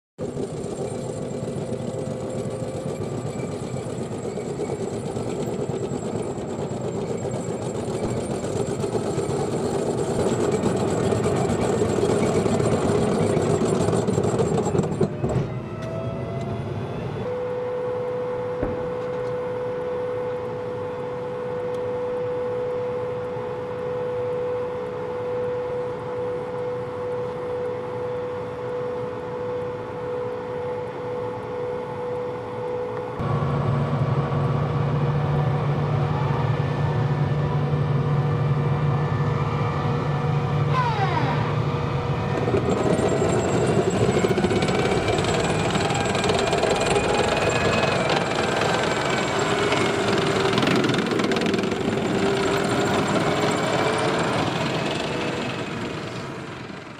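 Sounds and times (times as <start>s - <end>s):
tank turbine engine whine: 0.2s - 56.9s.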